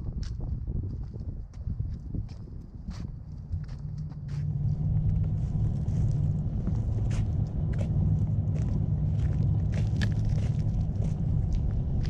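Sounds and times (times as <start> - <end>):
low engine hum: 0.0 - 12.0
faint footstep clicks: 1.5 - 12.0.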